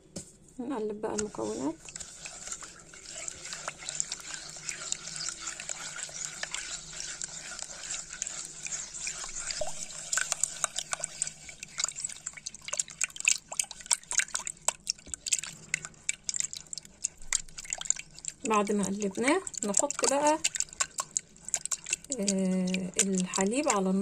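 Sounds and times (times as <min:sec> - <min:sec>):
liquid sloshing and dripping: 0:01.1 - 0:24.0
spatula tapping and scraping vessel: 0:01.1 - 0:24.0.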